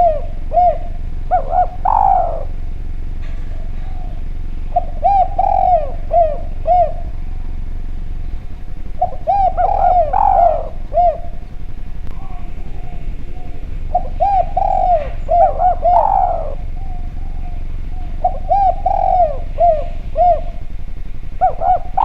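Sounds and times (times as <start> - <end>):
dove cooing: 0.0 - 22.0
low background hum: 0.0 - 22.0.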